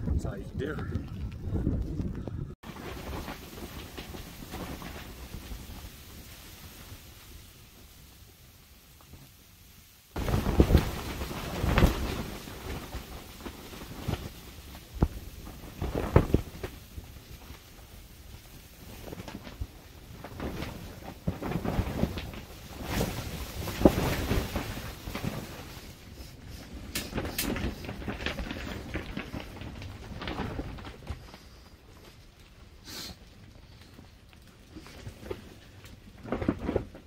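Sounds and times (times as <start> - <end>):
tent fabric flapping and rattling: 0.0 - 37.0
wind battering a tent: 0.0 - 37.0.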